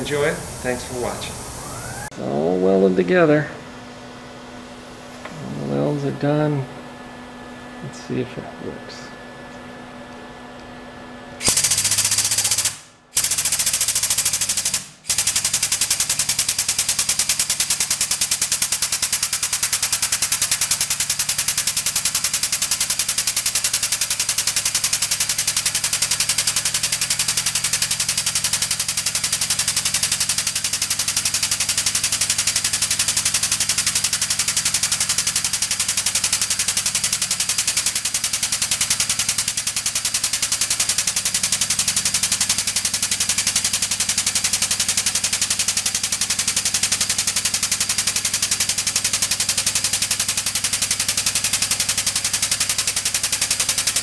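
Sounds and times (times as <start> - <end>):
air-driven pump rattling: 0.0 - 2.1, 11.4 - 54.0.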